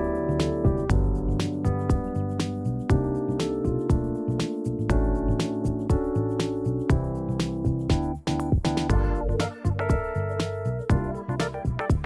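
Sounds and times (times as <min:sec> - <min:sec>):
keyboard instrumental music with drums: 0:00.0 - 0:12.0.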